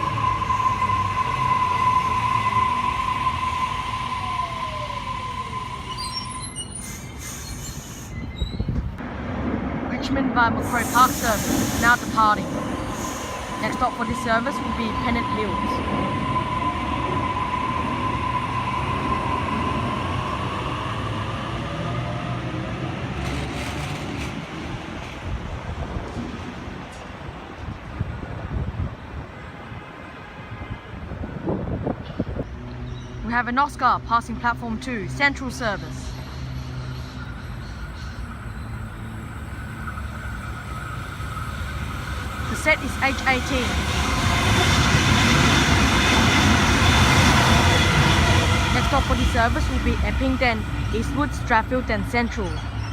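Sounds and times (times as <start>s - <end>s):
electric train rumble and whine: 0.0s - 52.9s.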